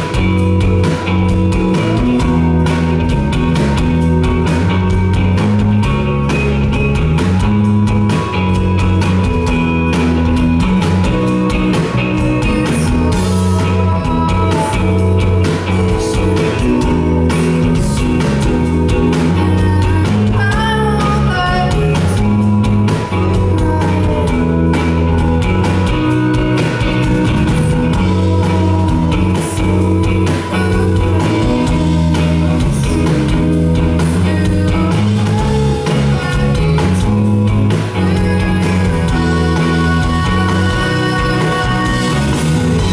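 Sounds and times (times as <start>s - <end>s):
bass guitar: 0.0s - 42.9s
drums: 0.0s - 42.9s
electric guitar: 0.0s - 42.9s
keyboard: 0.0s - 42.9s.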